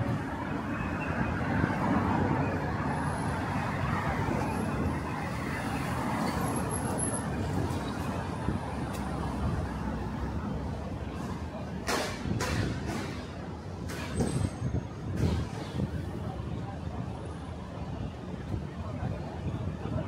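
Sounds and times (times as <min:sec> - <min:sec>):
busy road traffic: 0:00.0 - 0:20.0.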